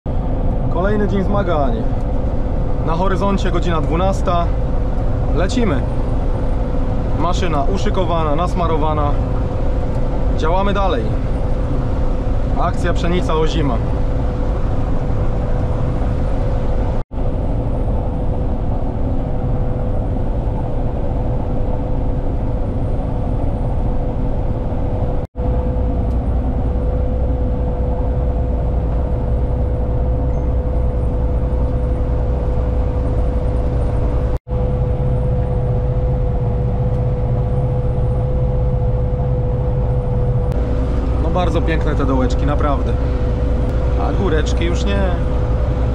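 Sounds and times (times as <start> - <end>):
combine harvester engine drone: 0.1 - 45.9.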